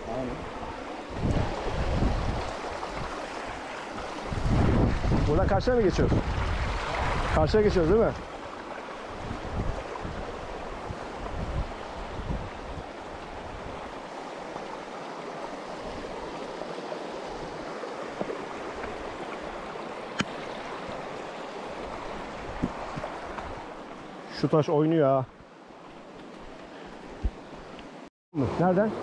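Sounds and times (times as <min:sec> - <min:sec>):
stream rippling over stones: 0:00.0 - 0:29.0.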